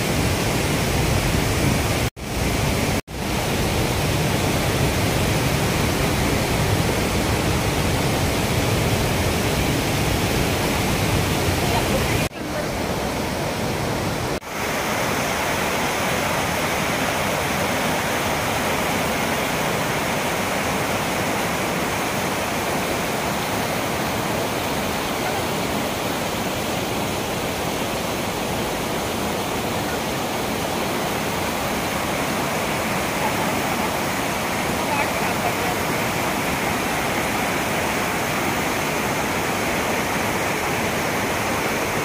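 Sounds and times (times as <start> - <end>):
whitewater rushing over rocks: 0.0 - 42.0.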